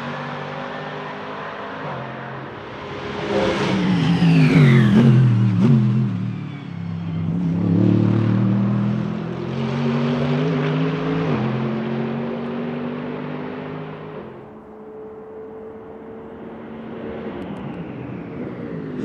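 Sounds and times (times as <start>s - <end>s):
race car engine passing: 0.0s - 19.0s.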